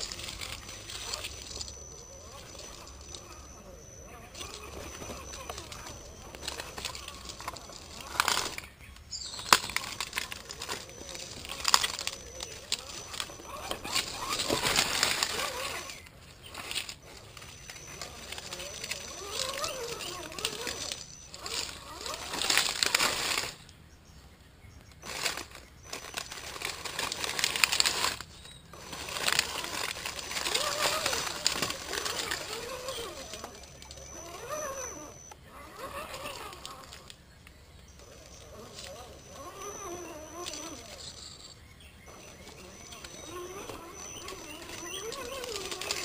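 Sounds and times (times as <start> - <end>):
rc crawler rustling through leaves: 0.0 - 46.0.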